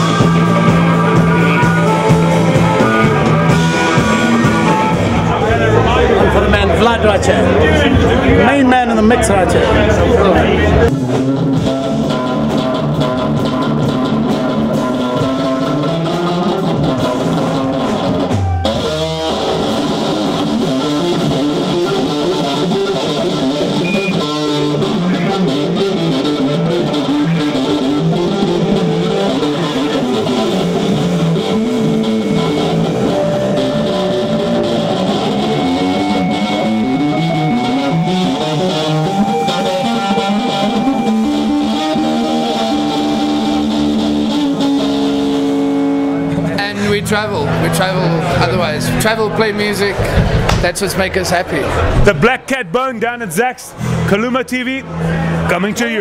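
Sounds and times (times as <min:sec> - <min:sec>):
electric guitar: 0:00.0 - 0:50.7
blues-rock band playing: 0:00.0 - 0:52.0.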